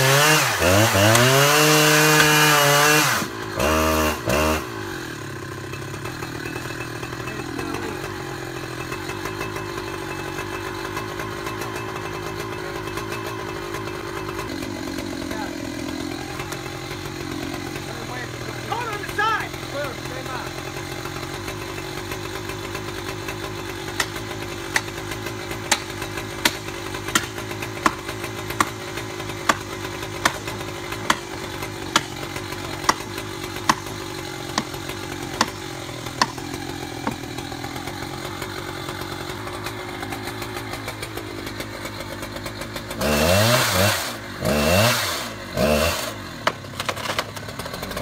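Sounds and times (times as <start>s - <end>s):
chainsaw cutting tree trunk: 0.0s - 48.0s.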